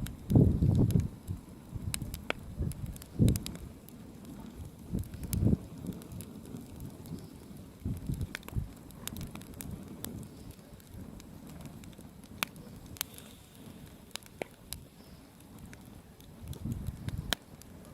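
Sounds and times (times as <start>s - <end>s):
bonfire crackling and popping: 0.0s - 17.9s.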